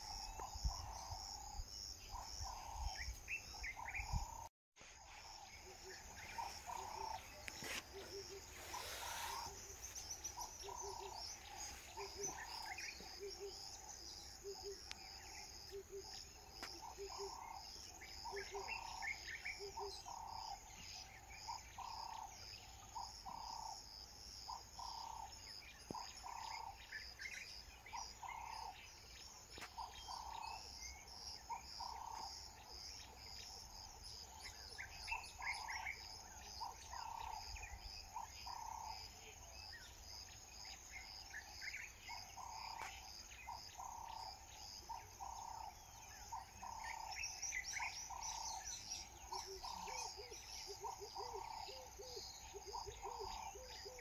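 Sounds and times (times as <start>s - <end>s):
birds chirping: 0.0s - 23.8s, 24.5s - 54.0s
insects chorus: 0.0s - 54.0s.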